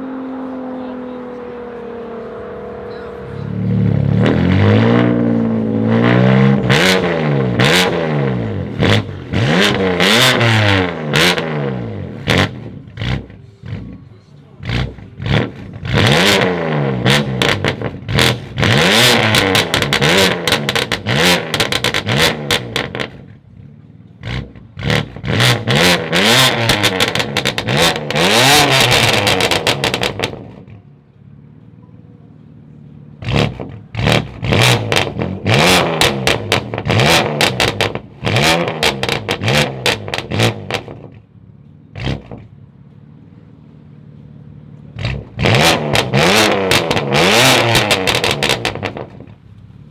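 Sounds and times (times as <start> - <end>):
exhaust crackles: 0.0 - 31.5, 32.8 - 42.7, 44.7 - 49.9
sports car engine revving: 0.0 - 49.9.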